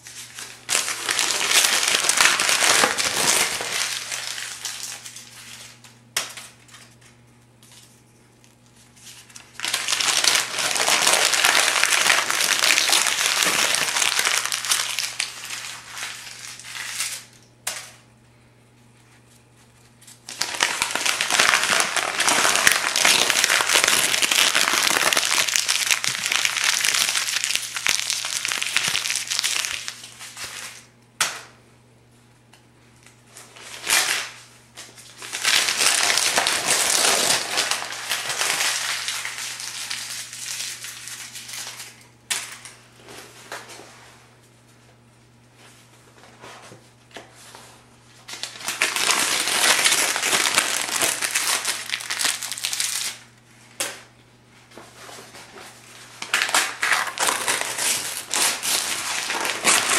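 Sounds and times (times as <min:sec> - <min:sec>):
paper crumpling: 0:00.0 - 0:06.0, 0:06.6 - 0:17.4, 0:18.9 - 0:30.9, 0:33.0 - 0:42.1, 0:48.2 - 0:53.3, 0:54.7 - 0:59.9.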